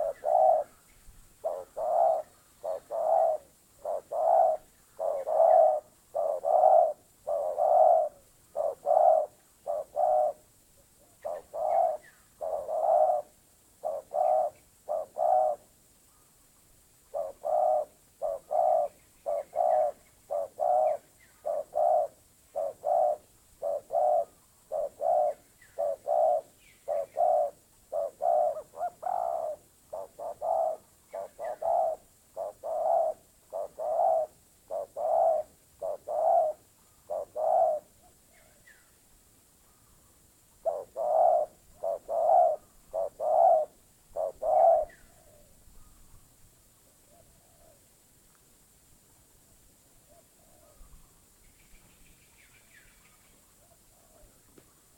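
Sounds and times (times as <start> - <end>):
dove cooing: 0.0 - 15.8, 17.1 - 38.8, 40.6 - 46.0, 46.9 - 47.8, 50.0 - 51.0, 53.6 - 54.4.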